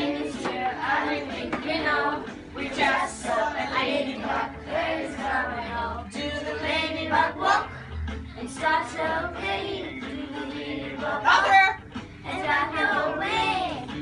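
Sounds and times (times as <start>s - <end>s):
children singing: 0.0s - 7.8s, 8.4s - 14.0s
music playing: 0.0s - 14.0s.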